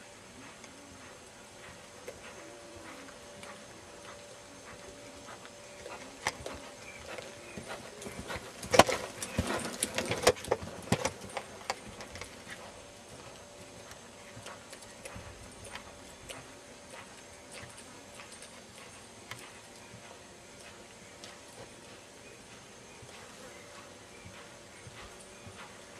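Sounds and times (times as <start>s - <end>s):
hoofbeats on sand: 0.4s - 25.9s.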